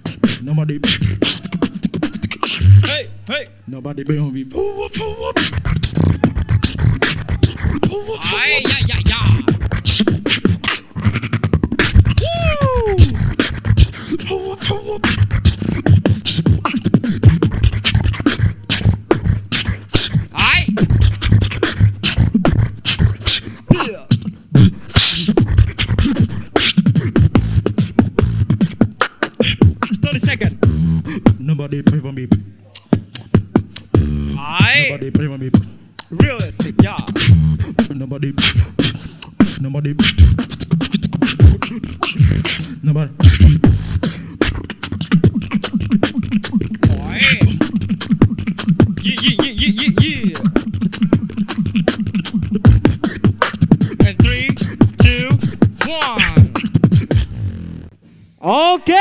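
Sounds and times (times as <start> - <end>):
beatboxing into microphone: 0.0 - 58.0
sliding vocal tones: 0.0 - 59.0.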